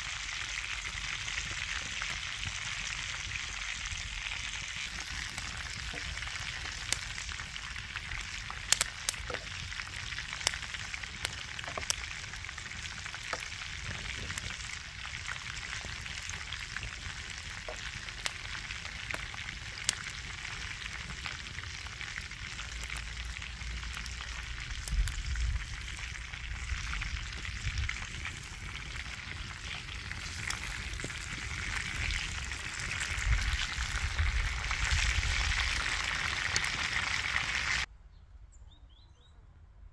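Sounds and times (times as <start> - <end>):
meat sizzling in a pan: 0.0 - 37.9.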